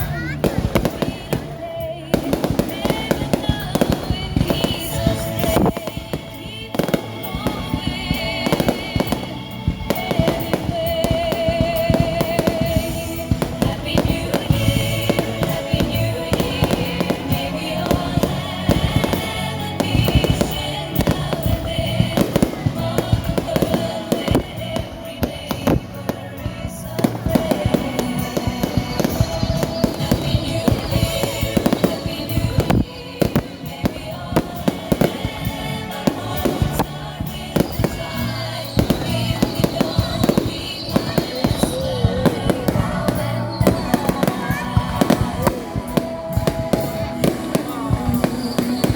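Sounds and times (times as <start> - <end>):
fireworks banging: 0.0 - 48.9
music playing: 0.0 - 48.9.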